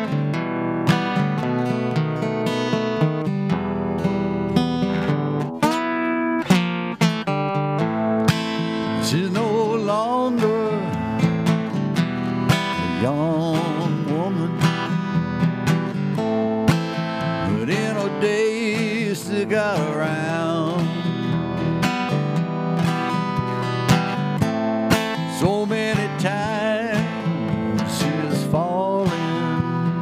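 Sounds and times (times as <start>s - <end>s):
sliding lead melody: 0.0s - 30.0s
strummed acoustic guitar: 0.0s - 30.0s.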